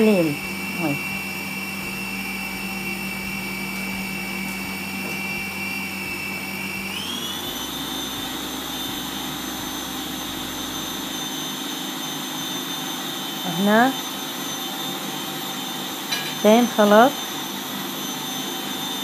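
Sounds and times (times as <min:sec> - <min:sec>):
food processor motor whining: 0:00.0 - 0:19.0.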